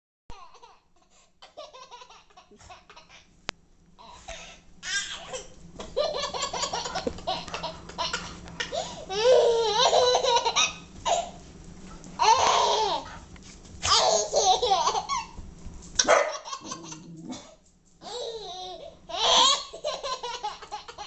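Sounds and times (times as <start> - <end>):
baby laughing: 0.3 - 3.3, 4.0 - 11.4, 12.2 - 13.2, 13.8 - 15.4, 16.0 - 17.2, 18.0 - 21.0.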